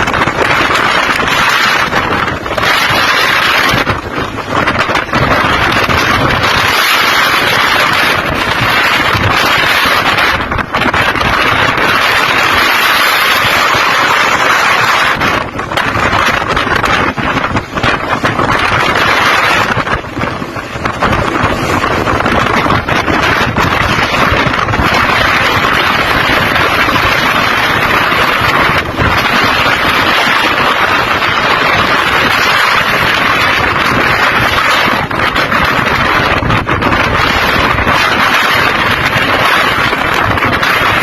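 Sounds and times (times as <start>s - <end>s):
heavy seas water noise: 0.0s - 41.0s
wind buffeting microphone: 0.0s - 41.0s.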